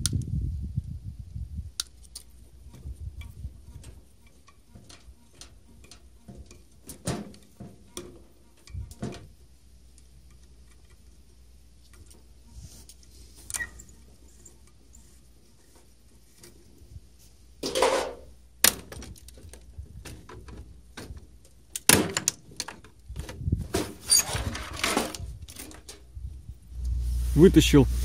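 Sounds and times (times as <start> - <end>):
parts clicking and scraping: 1.8 - 26.2.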